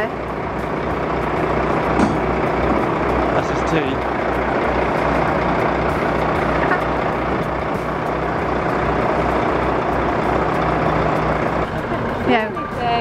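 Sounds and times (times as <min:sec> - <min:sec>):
diesel engine throbbing: 0:00.0 - 0:13.0.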